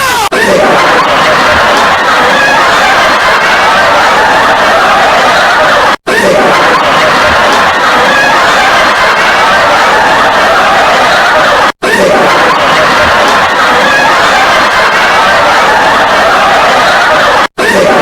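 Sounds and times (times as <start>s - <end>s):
many voices snickering and laughing: 0.0s - 18.0s.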